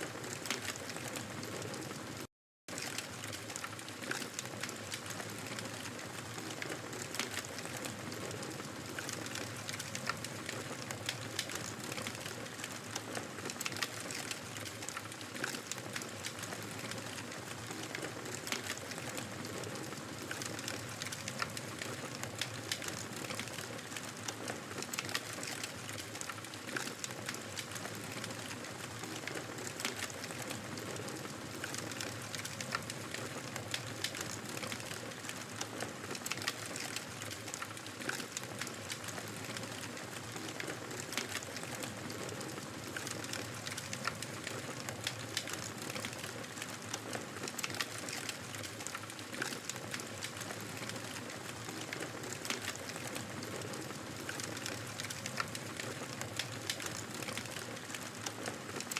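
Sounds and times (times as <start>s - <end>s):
wood fire crackling and popping: 0.2s - 2.0s, 2.7s - 58.9s.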